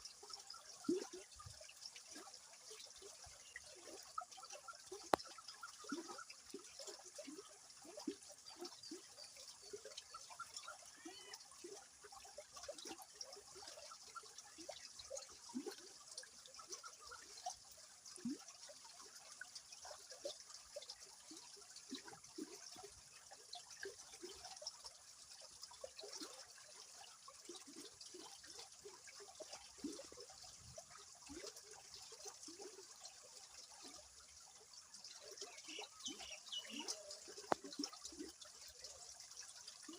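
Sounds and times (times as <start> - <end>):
river water trickling and gurgling: 0.0 - 39.9.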